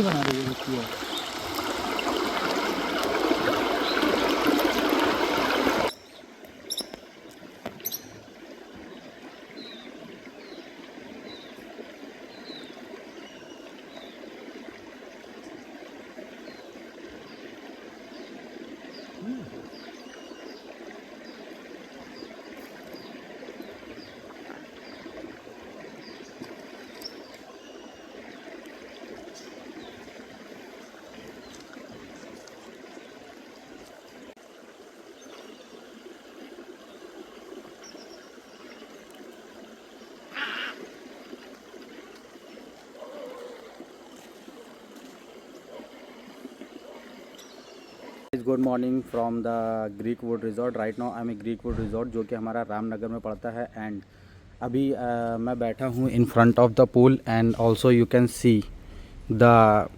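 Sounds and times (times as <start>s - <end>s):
trickle of flowing water: 0.0s - 59.9s.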